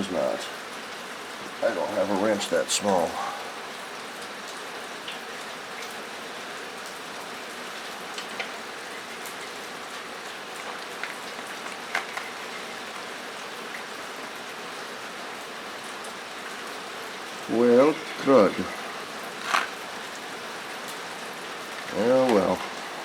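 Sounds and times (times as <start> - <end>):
rain on a metal roof: 0.0 - 23.0.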